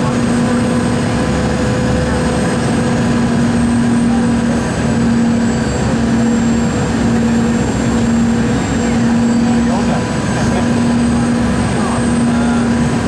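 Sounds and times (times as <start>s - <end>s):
jet engine and airflow noise: 0.0s - 13.0s.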